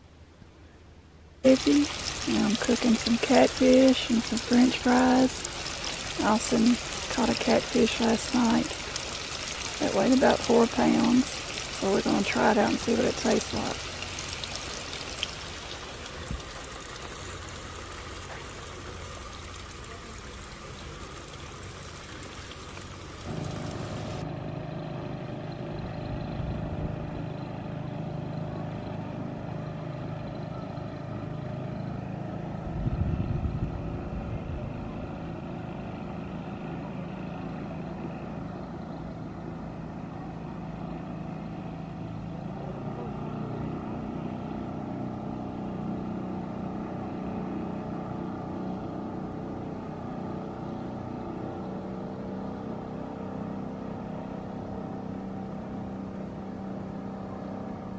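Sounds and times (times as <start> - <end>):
outboard motor droning: 1.4 - 57.9.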